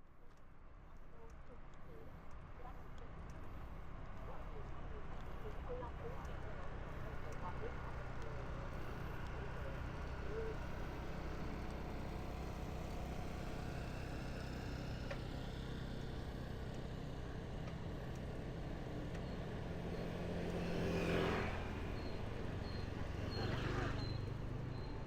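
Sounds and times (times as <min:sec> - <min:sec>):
traffic hum: 0:00.4 - 0:25.0.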